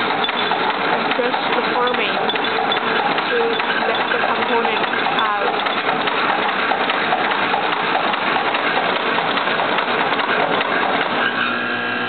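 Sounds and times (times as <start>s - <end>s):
components rattling in machine: 0.0s - 11.5s
machine humming: 0.0s - 12.0s.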